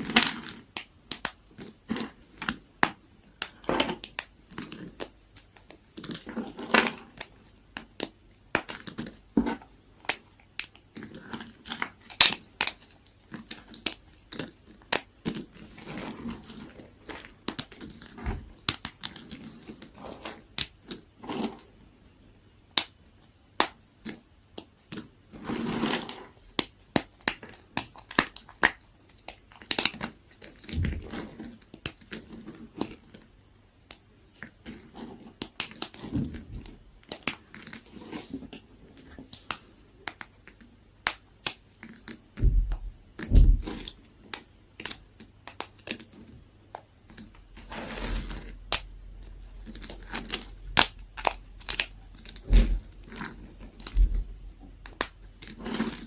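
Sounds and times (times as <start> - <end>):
knife cutting dry soap: 0.0 - 21.7, 23.6 - 33.2, 33.9 - 56.0.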